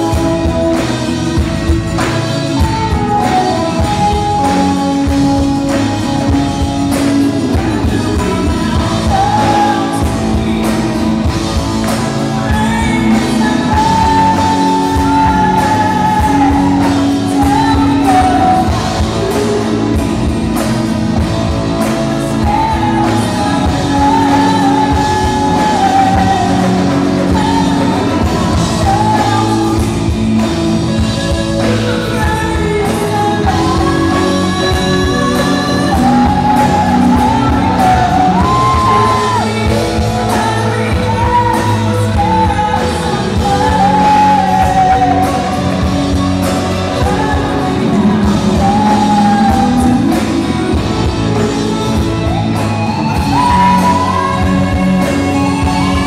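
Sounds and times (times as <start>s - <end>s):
live rock band playing: 0.0s - 56.0s
person singing lead melody: 0.0s - 56.0s.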